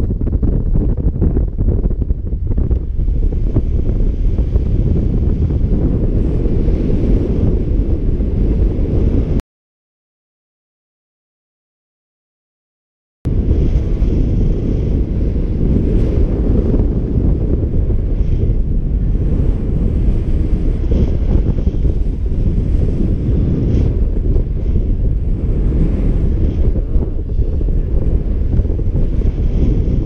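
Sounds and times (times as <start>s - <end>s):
wind buffeting microphone: 0.0s - 9.4s, 13.3s - 30.0s.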